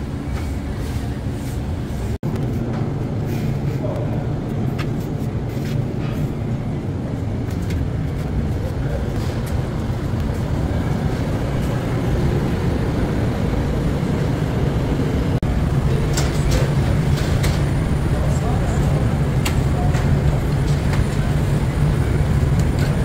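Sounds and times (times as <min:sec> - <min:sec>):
machinery and ventilation rumble: 0:00.0 - 0:23.0.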